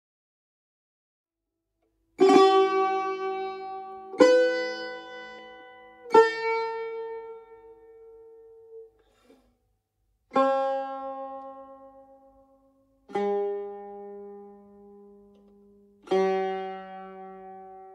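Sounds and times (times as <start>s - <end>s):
plucked lute notes: 1.8s - 9.5s, 10.3s - 17.9s.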